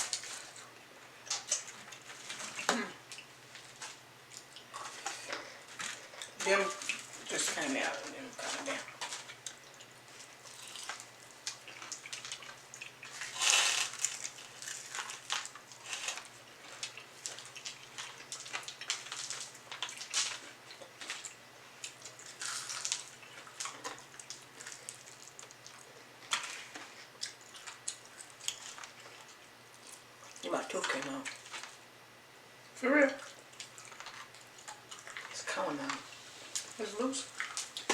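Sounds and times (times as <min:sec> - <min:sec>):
chewing crispy chicken wings: 0:00.0 - 0:31.9, 0:33.2 - 0:37.9.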